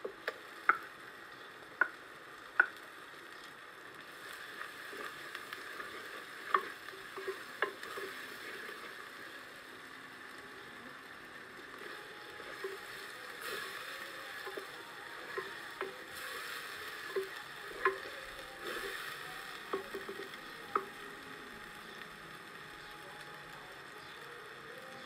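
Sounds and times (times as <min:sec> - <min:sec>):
vegetable masala sizzling: 0:00.0 - 0:25.0.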